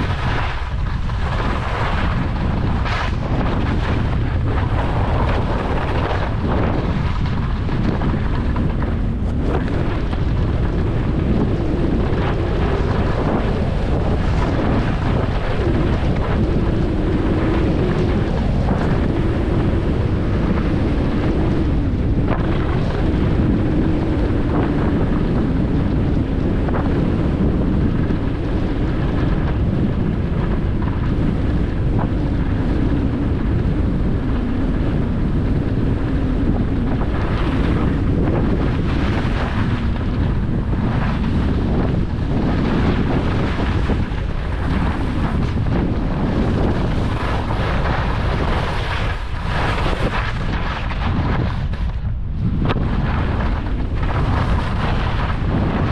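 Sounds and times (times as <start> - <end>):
skis scraping over snow: 0.0 - 55.9
wind buffeting microphone: 0.0 - 55.9.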